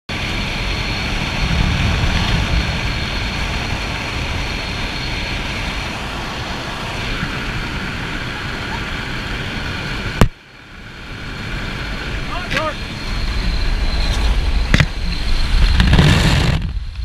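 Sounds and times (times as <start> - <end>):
rushing air in cabin: 0.1 - 10.2, 10.9 - 17.0
plane engine drone: 0.1 - 17.0.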